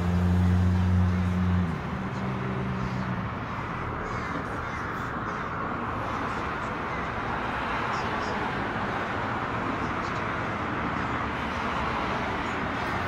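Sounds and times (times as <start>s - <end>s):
road traffic noise: 0.0s - 13.0s
crows cawing: 0.9s - 1.8s, 2.5s - 12.6s.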